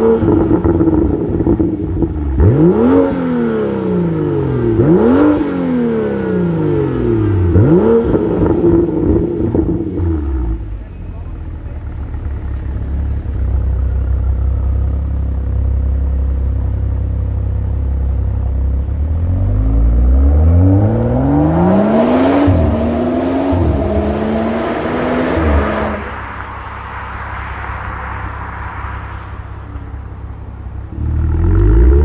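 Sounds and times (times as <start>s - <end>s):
car engine accelerating: 0.0s - 32.0s.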